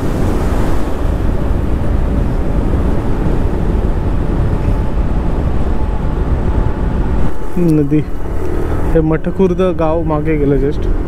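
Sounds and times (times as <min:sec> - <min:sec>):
road rumble: 0:00.0 - 0:11.0
wind rushing: 0:00.0 - 0:11.0.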